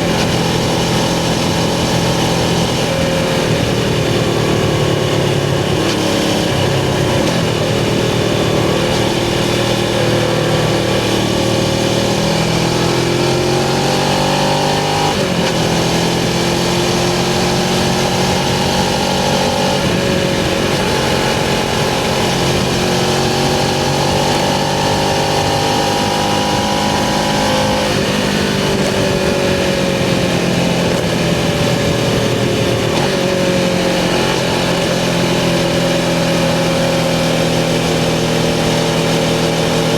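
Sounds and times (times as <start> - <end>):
motorcycle engine revving with gear shifts: 0.0 - 39.9.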